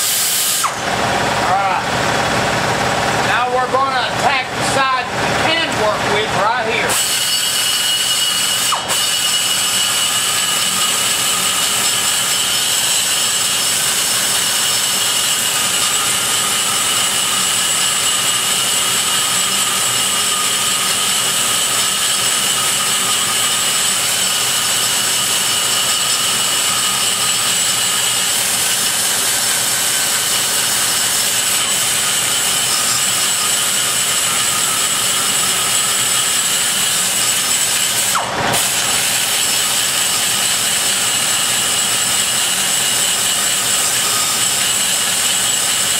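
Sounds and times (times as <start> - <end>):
die grinder cutting metal: 0.0 - 45.9.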